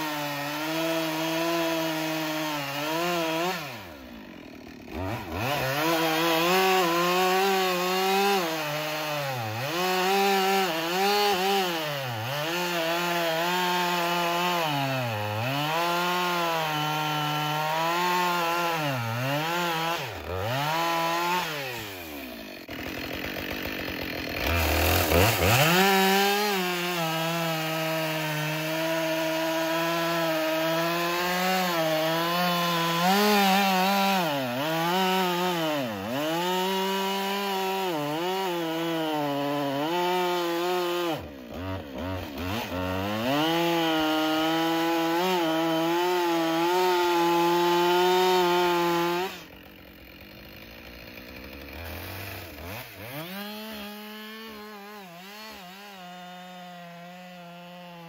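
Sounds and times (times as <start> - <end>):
chainsaw running at full throttle: 0.0 - 58.0.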